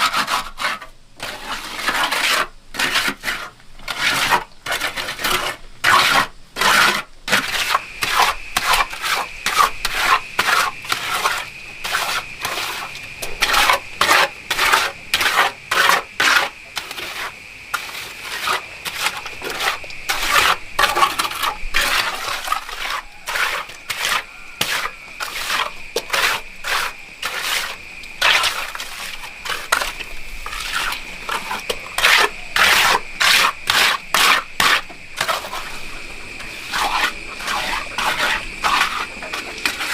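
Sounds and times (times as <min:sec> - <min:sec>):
hand tool scraping gritty surface: 0:00.0 - 0:39.9.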